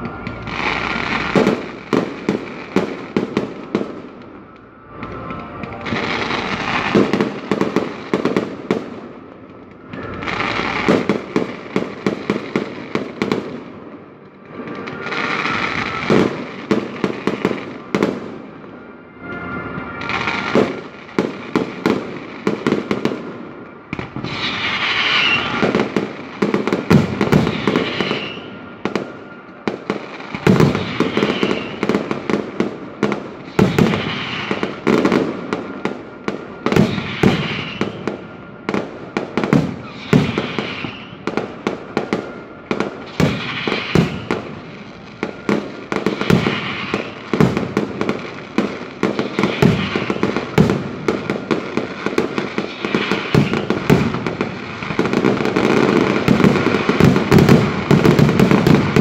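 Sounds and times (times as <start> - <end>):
continuous fireworks hiss: 0.0 - 59.0
fireworks bursting bangs: 0.0 - 59.0.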